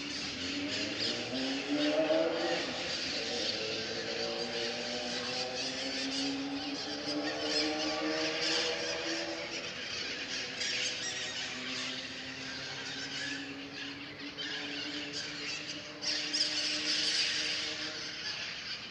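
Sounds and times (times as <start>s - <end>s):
birds chirping and squawking: 0.0s - 18.9s.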